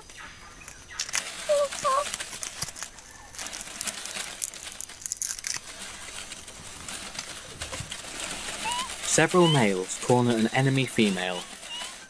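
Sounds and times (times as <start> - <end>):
dry leaves crinkling and crunching: 0.0 - 12.0.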